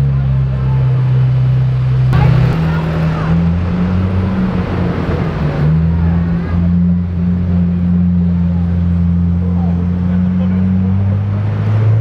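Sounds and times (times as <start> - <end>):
car engine running at low revs: 0.0 - 12.0
road noise: 0.0 - 12.0.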